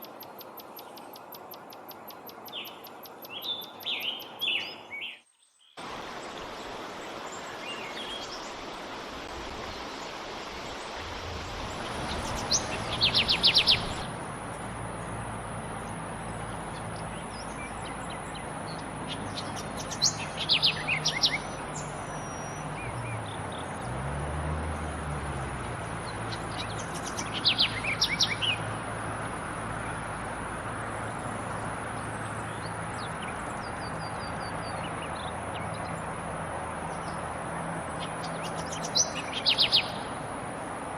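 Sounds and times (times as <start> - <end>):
songbird chirping: 0.0 - 40.6
outdoor background hiss: 0.0 - 40.9.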